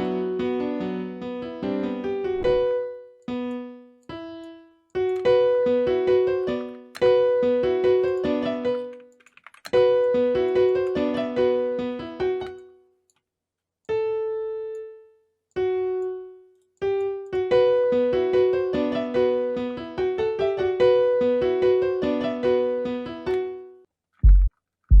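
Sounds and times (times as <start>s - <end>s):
piano-like keys melody: 0.0s - 13.0s, 13.9s - 25.0s.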